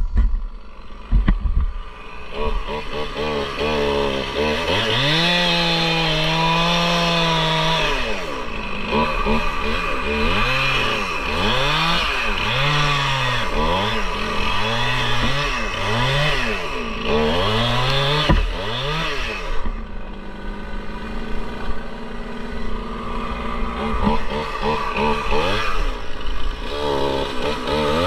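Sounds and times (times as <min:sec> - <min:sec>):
chainsaw cutting log: 0:00.0 - 0:28.0.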